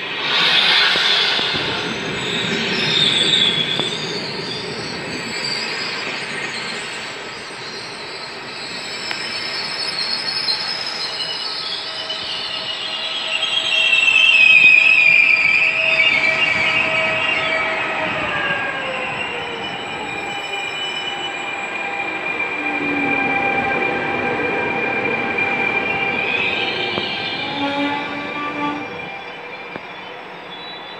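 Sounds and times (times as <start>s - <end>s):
coaches rumbling on rails: 0.0s - 30.9s
train wheels squealing: 0.0s - 30.9s.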